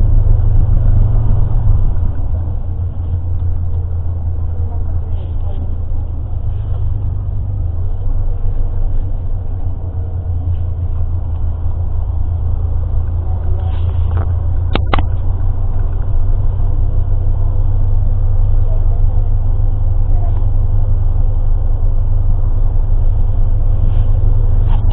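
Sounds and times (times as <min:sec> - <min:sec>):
vehicle engine rumble: 0:00.0 - 0:24.9.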